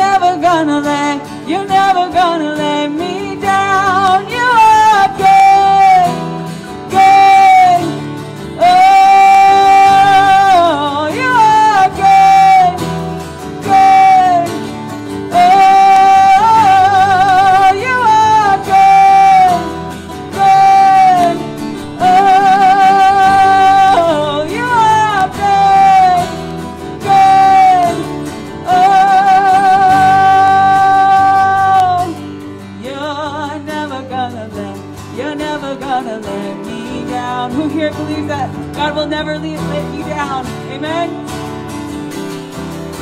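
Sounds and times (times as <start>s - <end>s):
woman singing wordless notes: 0.0s - 41.3s
electric guitar: 0.0s - 43.0s
strummed acoustic guitar: 0.0s - 43.0s.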